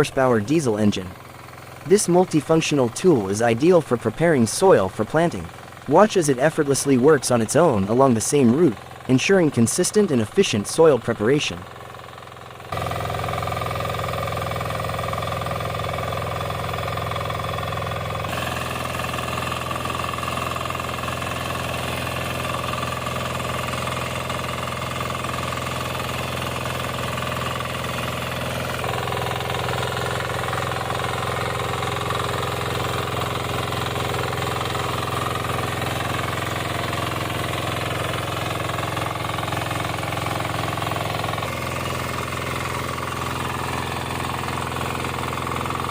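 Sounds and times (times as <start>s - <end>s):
diesel engine running steadily: 0.0s - 45.9s.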